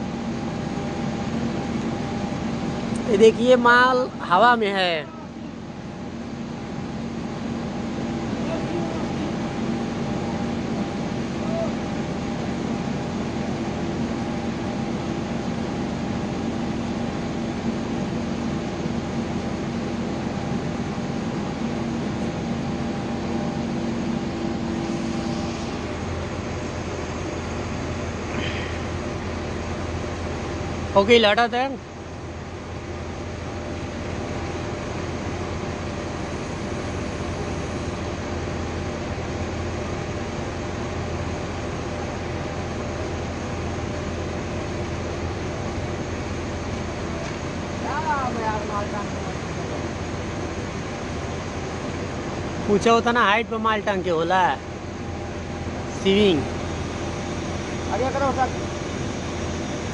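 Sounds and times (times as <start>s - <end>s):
crane engine humming: 0.0s - 59.9s.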